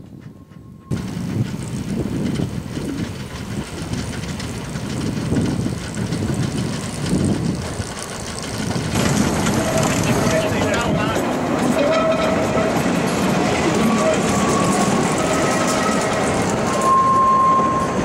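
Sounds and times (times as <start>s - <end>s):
steam locomotive exhaust beats: 0.0s - 18.0s.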